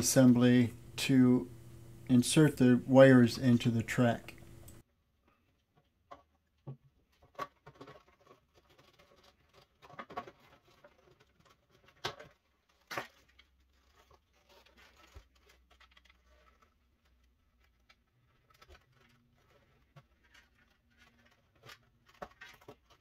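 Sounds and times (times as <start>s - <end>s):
light plastic rustling: 3.4s - 23.0s.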